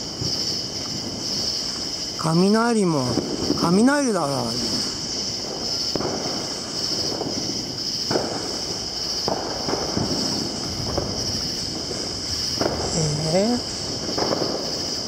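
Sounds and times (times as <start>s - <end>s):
distant fireworks bangs: 0.0s - 15.0s
insects chirring: 0.0s - 15.0s.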